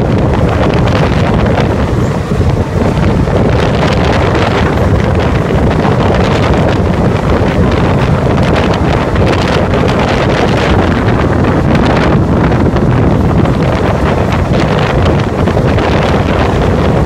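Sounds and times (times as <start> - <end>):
train rumbling at speed: 0.0 - 17.0
wind buffeting microphone: 0.0 - 17.0.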